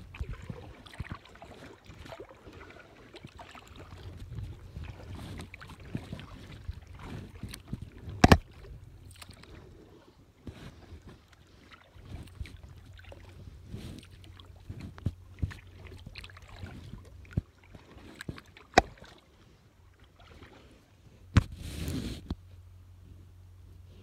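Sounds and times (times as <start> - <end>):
paddle splashing in water: 0.0 - 22.2.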